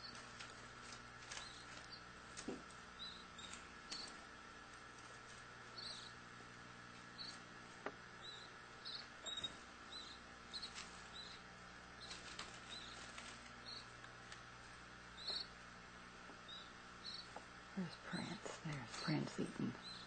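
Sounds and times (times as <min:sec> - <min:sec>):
canaries peeping chirps: 0:00.0 - 0:20.0.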